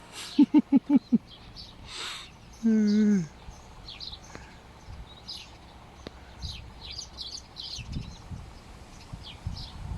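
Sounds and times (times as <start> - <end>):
small birds chirping: 0.0 - 9.9.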